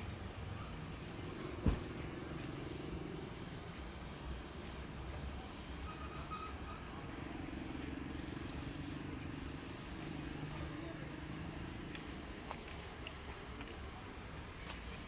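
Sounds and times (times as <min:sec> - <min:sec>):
distant traffic rumble: 0:00.0 - 0:15.0
vehicle engine hum: 0:00.0 - 0:15.0.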